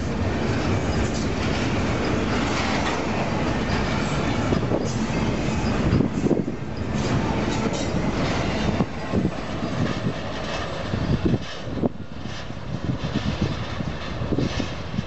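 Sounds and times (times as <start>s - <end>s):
freight train wheels clacking over joints: 0.0s - 15.0s.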